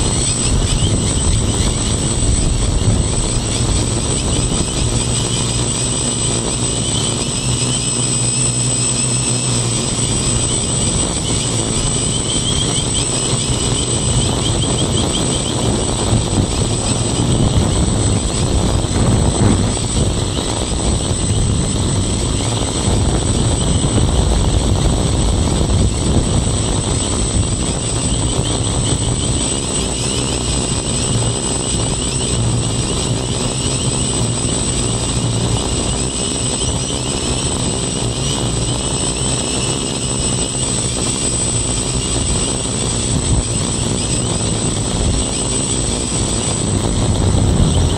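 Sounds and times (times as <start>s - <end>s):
quadcopter motors buzzing: 0.0s - 47.9s.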